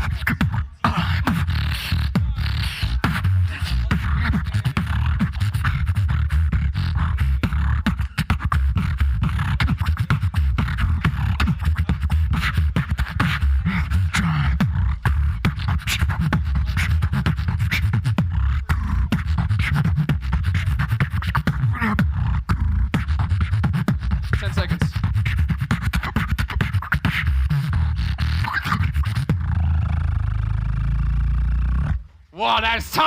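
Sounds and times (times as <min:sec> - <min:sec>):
beatboxing: 0:00.0 - 0:33.0.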